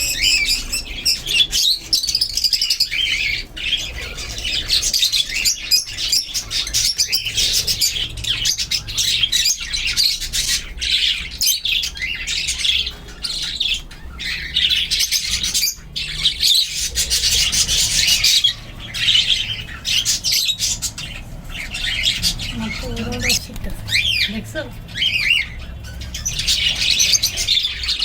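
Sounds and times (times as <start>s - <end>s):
budgerigar chicks chirping: 0.0s - 28.0s.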